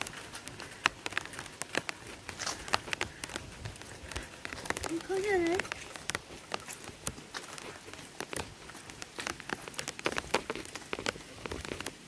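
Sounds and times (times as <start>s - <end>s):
faint rain hiss: 0.0s - 12.0s
raindrops tapping: 0.0s - 12.0s.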